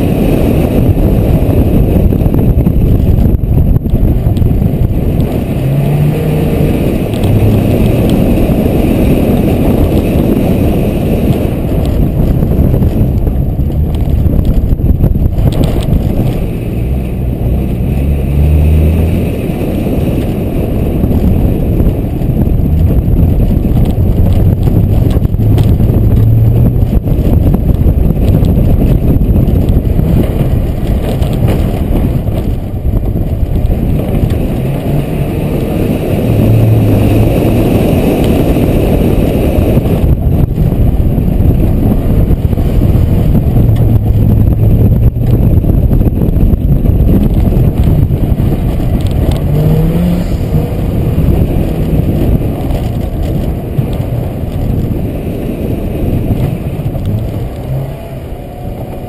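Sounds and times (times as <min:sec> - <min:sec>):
car engine revving: 0:00.0 - 0:59.0
tyre noise: 0:00.0 - 0:59.0
wind rushing: 0:00.0 - 0:59.0.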